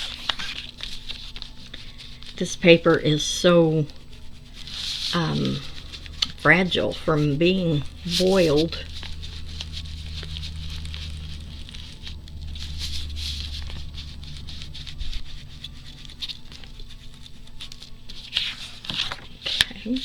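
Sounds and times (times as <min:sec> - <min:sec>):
steady low hum: 0:00.0 - 0:20.0
ink pad dabbing on paper: 0:00.7 - 0:18.4.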